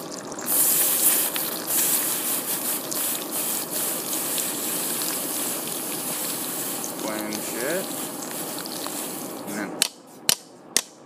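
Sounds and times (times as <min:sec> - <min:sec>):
water splashing on hot steel: 0:00.0 - 0:09.5
hiss of quenching steel: 0:00.5 - 0:09.4.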